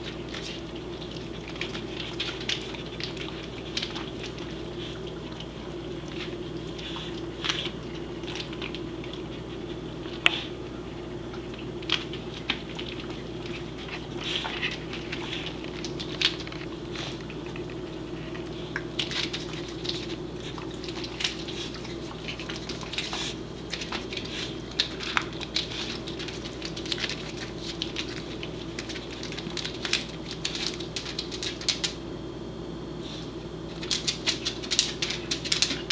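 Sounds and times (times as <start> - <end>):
dog pawing and mouthing an egg: 0.0 - 32.0, 33.0 - 35.9
low steady hum: 0.0 - 35.9.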